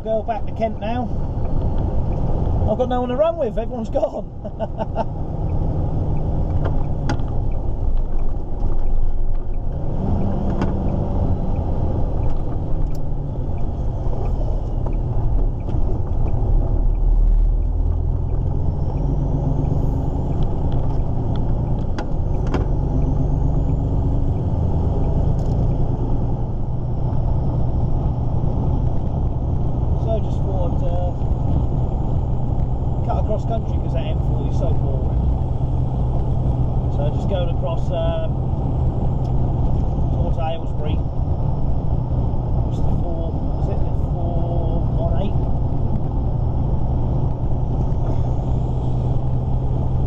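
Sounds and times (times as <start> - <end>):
truck diesel engine from cab: 0.0 - 50.0.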